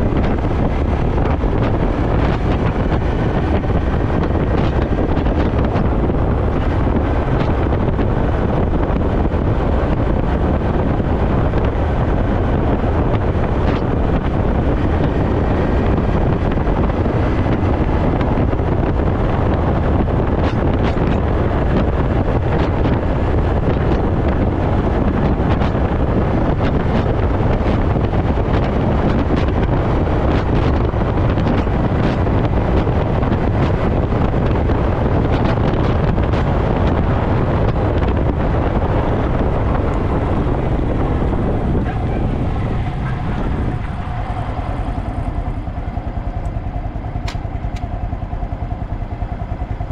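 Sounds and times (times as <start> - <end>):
motorbike engine running: 0.0 - 49.9
wind rush on microphone: 0.0 - 49.9.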